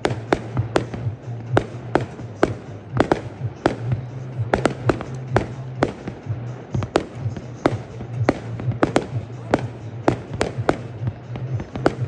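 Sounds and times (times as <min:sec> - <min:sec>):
fireworks bangs: 0:00.0 - 0:12.0
music playing: 0:00.0 - 0:12.0.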